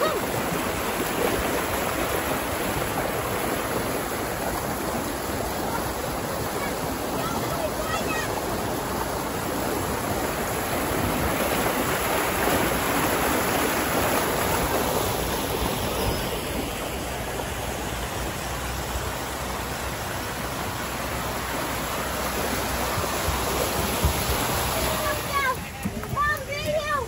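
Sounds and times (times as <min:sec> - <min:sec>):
water rushing down slides: 0:00.0 - 0:27.0.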